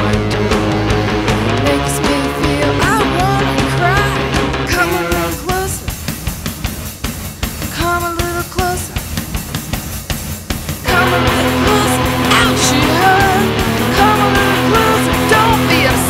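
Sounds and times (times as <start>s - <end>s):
drum kit hits: 0.0s - 16.0s
held pitched notes: 0.0s - 16.0s
indie rock guitars: 0.0s - 16.0s.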